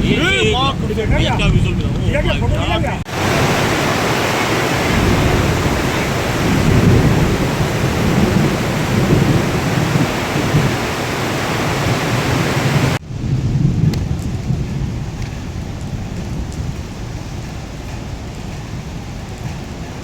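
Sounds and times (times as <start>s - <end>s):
gusting wind: 0.0s - 20.0s
heavy rain: 0.0s - 20.0s
thunder rumbling: 0.0s - 20.0s.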